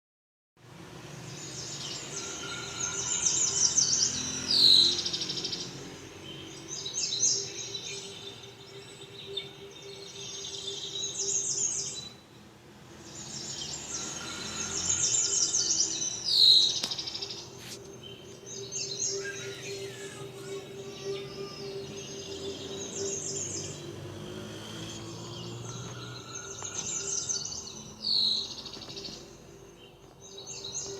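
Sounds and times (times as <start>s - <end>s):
songbirds chirping and trilling: 0.8s - 30.9s.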